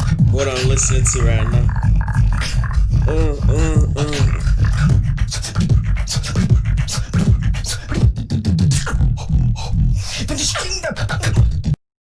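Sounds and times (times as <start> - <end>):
person beatboxing: 0.0 - 11.8.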